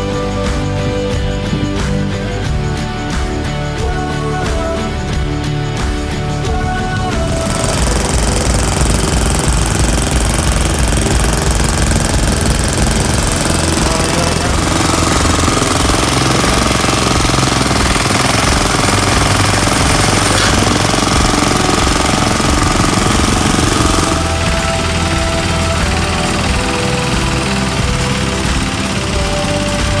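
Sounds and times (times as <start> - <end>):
small engine chugging: 4.8 - 30.0.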